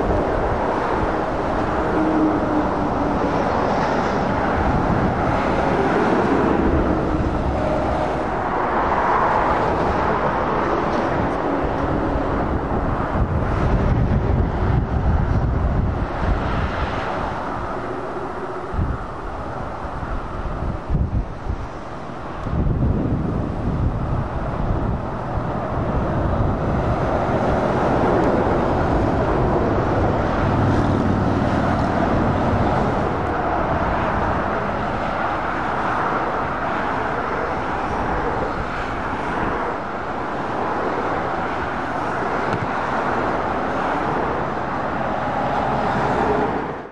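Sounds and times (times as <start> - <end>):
lorry engine drone: 0.0 - 46.9
road traffic roar: 0.0 - 46.9.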